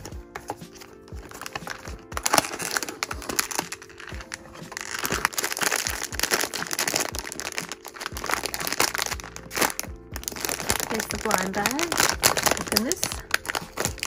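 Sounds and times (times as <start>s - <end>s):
foil bag crinkling: 0.7s - 14.0s.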